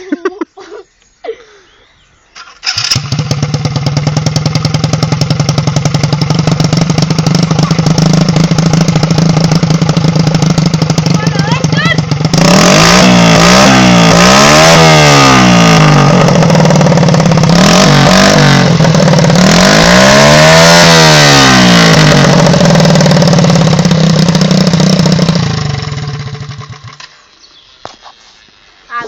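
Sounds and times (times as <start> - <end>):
quad bike engine revving: 2.4 - 27.2.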